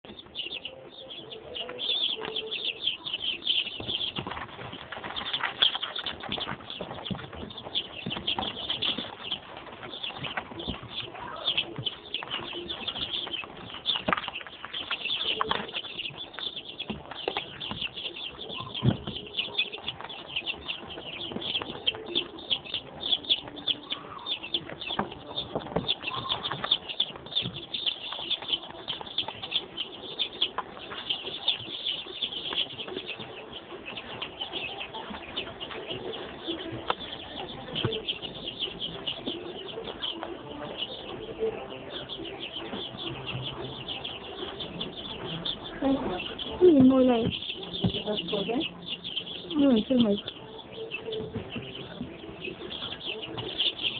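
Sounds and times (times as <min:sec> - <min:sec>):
chicks peeping: 0:00.0 - 0:53.9.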